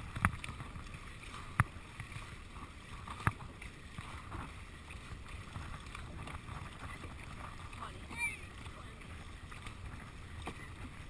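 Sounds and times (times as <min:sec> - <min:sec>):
water wash: 0:00.0 - 0:11.0
wind: 0:00.0 - 0:11.0.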